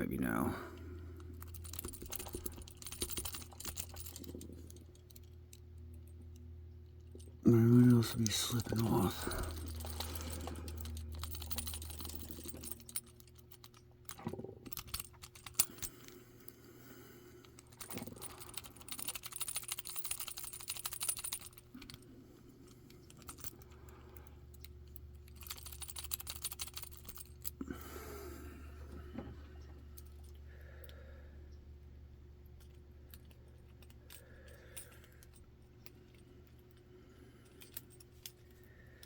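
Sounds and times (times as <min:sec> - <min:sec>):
lock picks clicking and rattling: 0:01.1 - 0:16.2, 0:17.4 - 0:27.6, 0:29.6 - 0:30.9, 0:32.4 - 0:39.0.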